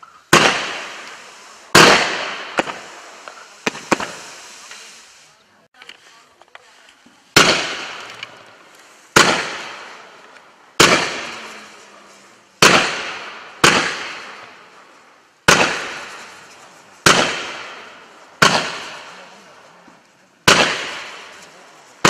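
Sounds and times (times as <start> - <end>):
firework launch reports: 0.3 - 22.0.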